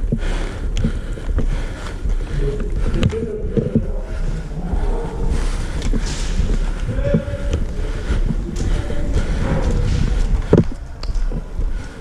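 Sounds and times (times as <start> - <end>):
gear knocks and clicks: 0.0 - 12.0
steady low rumble: 0.0 - 12.0.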